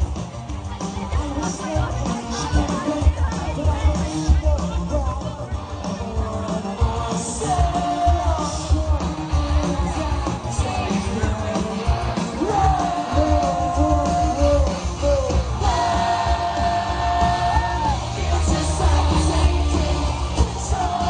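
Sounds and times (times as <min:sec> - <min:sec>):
heavy bass and drums: 0:00.0 - 0:21.0
lead vocal singing: 0:00.0 - 0:21.0
live pop-rock band playing: 0:00.0 - 0:21.0.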